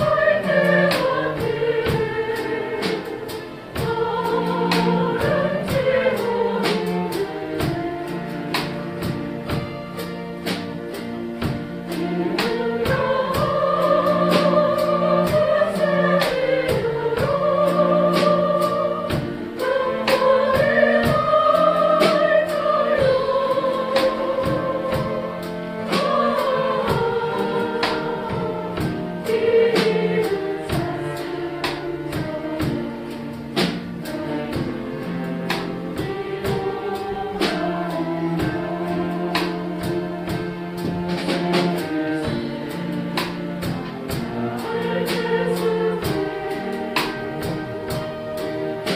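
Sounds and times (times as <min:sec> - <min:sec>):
group of voices singing: 0:00.0 - 0:08.5, 0:11.9 - 0:48.9.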